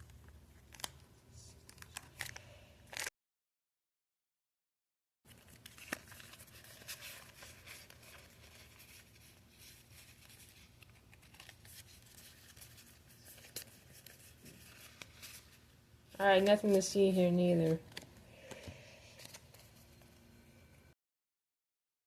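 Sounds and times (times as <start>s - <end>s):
cards and wrappers rustling: 0.0s - 3.1s, 5.3s - 20.3s.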